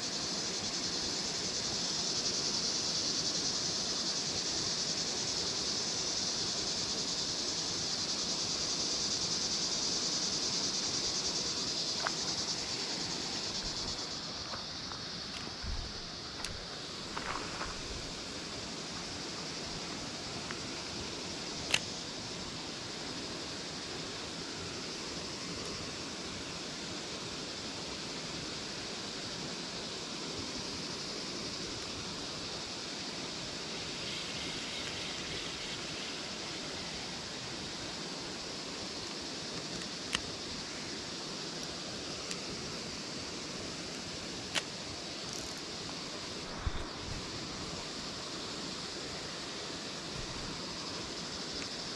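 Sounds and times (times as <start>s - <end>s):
outdoor background hiss: 0.0s - 51.9s.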